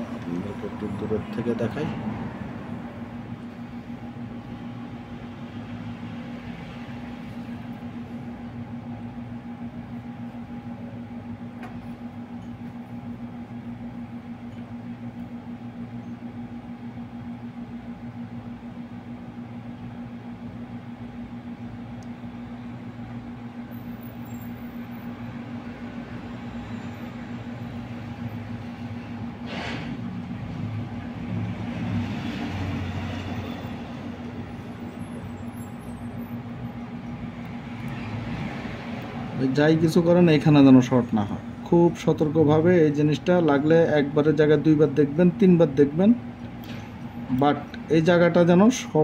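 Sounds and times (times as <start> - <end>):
low mechanical hum: 0.0 - 49.0.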